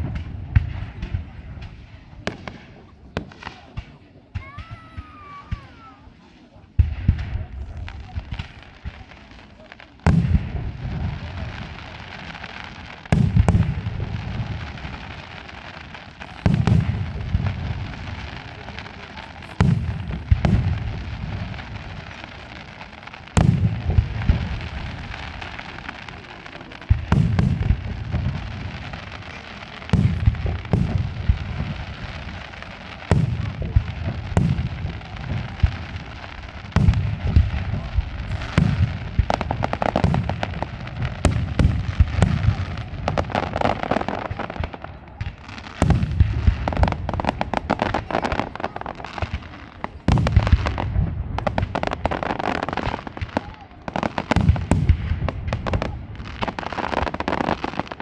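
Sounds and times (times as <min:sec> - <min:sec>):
firework shells booming: 0:00.0 - 0:58.0.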